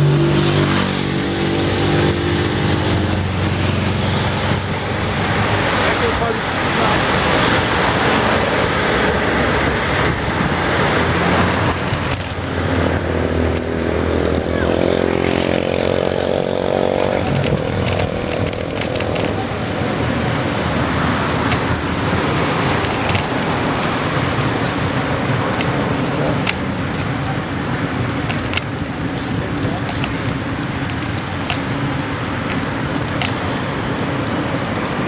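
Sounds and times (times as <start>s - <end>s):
motor vehicle engine drone: 0.0s - 35.0s
road noise: 0.0s - 35.0s
wind noise: 0.0s - 35.0s.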